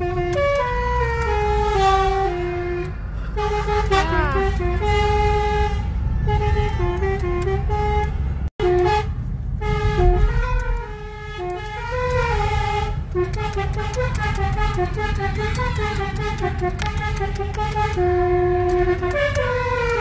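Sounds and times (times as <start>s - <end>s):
musical car horn tune: 0.0s - 20.0s
road and engine rumble: 0.0s - 20.0s.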